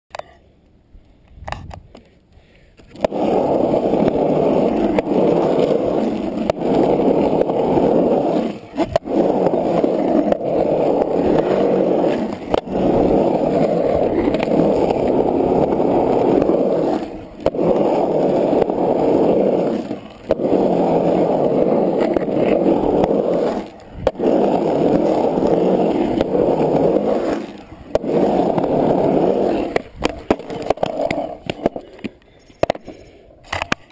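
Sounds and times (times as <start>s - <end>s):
skateboard wheels rolling on concrete: 0.1s - 33.9s.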